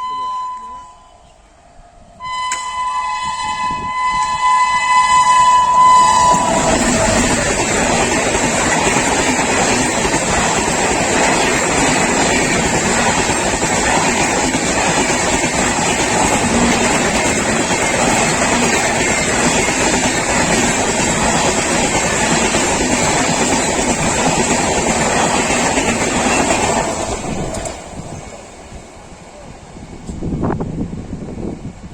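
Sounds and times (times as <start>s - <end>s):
train wheels rushing on rails: 2.5s - 31.9s.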